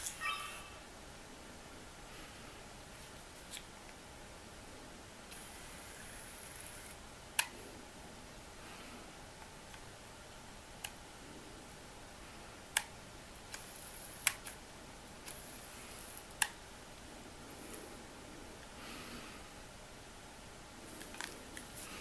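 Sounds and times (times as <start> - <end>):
faint high-pitched camera whirs: 0.0 - 22.0.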